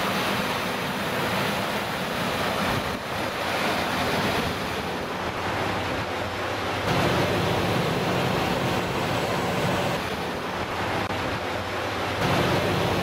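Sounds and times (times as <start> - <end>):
diesel generator running: 0.0 - 13.0.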